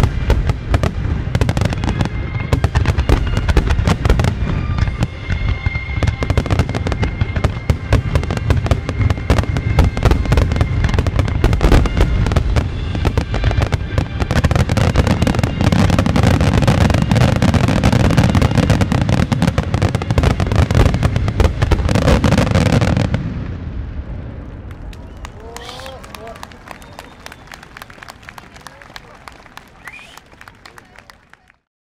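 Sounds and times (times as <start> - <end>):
fireworks bursting and crackling: 0.0 - 31.4.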